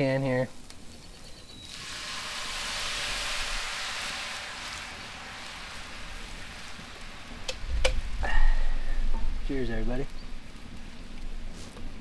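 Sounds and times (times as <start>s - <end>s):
wine sizzling in hot pan: 0.0s - 12.0s.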